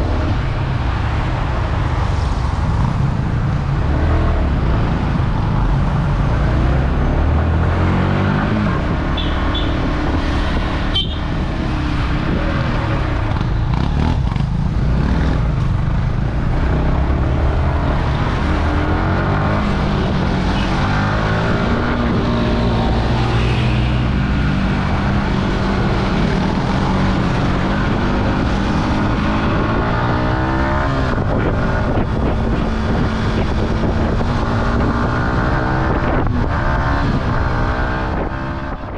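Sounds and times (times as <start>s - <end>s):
wind rushing over microphone: 0.0s - 38.9s
motorcycle engine revving: 3.8s - 38.9s.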